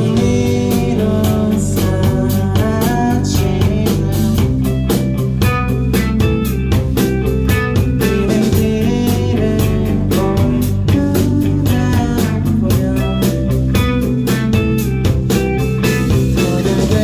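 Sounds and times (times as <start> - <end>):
bass guitar: 0.0 - 17.0
steady drum beat: 0.0 - 17.0
strummed guitar chords: 0.0 - 17.0.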